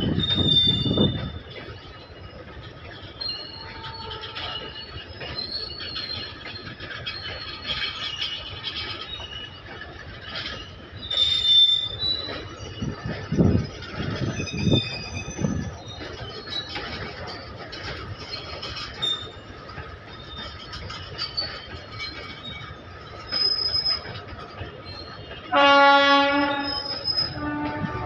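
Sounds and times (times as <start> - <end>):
freight train rolling: 0.0 - 28.0
train wheels squealing: 0.0 - 28.0.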